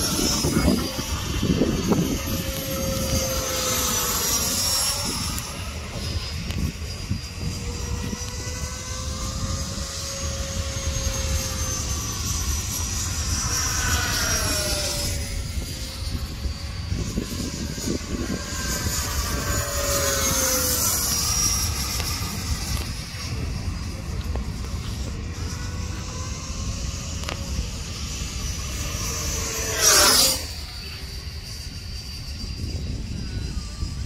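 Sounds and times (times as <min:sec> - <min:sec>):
jet engine whine passing: 0:00.0 - 0:34.0.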